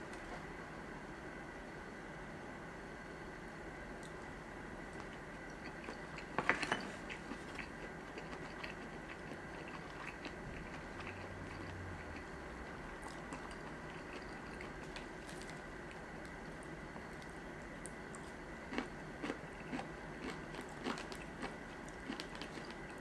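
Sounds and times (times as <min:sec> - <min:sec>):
person chewing with wet clicks: 0:03.4 - 0:04.2, 0:04.9 - 0:23.0.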